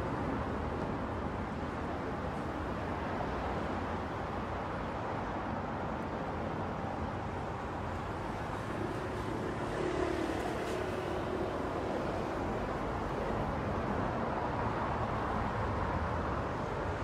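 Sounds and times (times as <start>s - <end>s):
car road and tyre noise: 0.0s - 17.0s.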